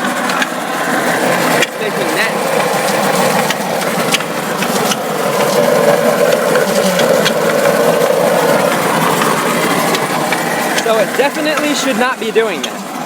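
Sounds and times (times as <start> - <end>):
transmission scraping and rattling: 0.0 - 13.0.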